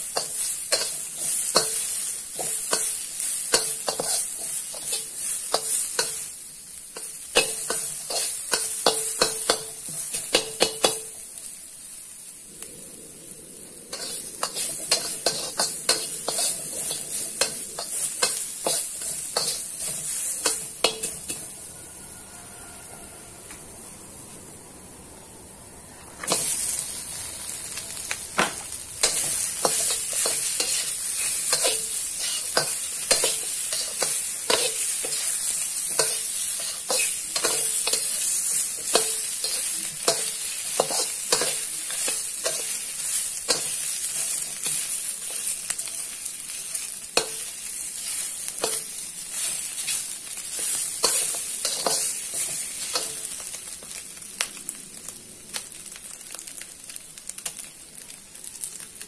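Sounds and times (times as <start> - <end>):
metal spatula scraping wok: 0.0 - 6.4, 7.0 - 11.2, 13.9 - 23.5, 26.2 - 53.5
meat sizzling in a wok: 0.0 - 59.0.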